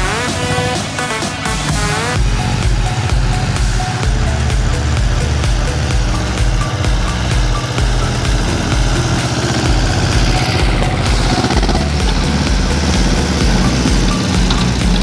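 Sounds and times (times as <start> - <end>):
tractor diesel engine under load: 1.7 - 15.0
rotary mower cutting canes: 3.0 - 15.0.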